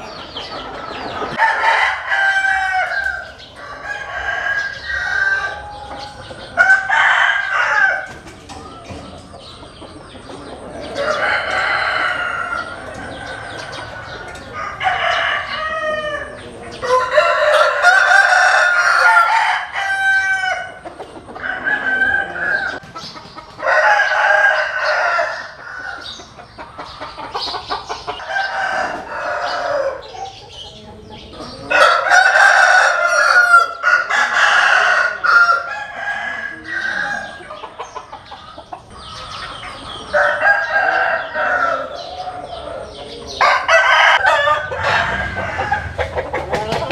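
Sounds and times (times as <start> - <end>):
chickens clucking: 0.0 - 46.9
roosters crowing: 0.0 - 46.9.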